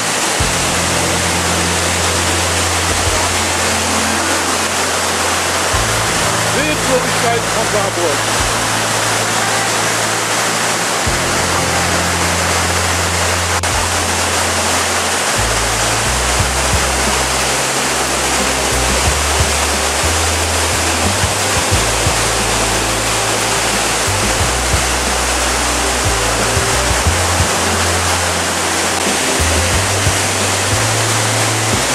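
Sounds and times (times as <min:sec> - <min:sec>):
low held music notes: 0:00.0 - 0:31.9
waterfall rushing: 0:00.0 - 0:31.9.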